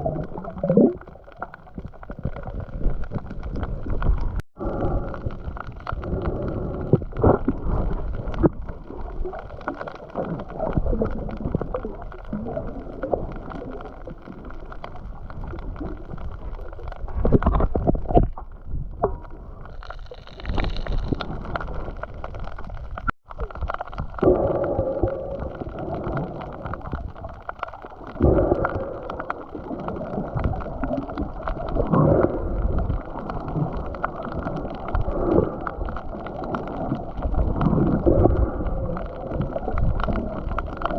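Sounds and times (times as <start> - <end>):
muffled water sloshing and gurgling: 0.0 - 40.9.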